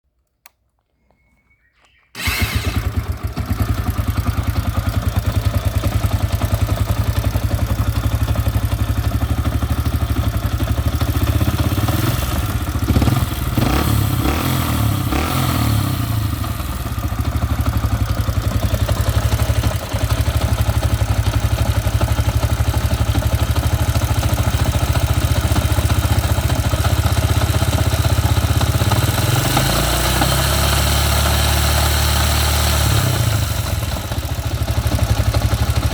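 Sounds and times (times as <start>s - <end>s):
motorcycle engine idling: 2.2s - 35.9s.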